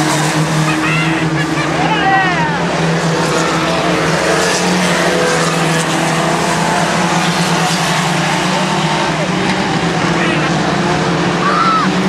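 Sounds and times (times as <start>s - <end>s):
racing truck engines droning: 0.0s - 12.0s.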